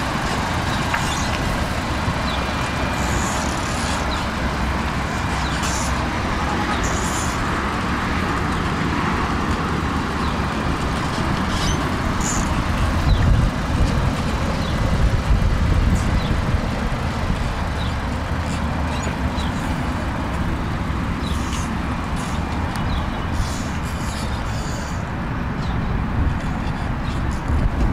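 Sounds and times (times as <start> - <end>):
road traffic rumble: 0.0 - 27.9.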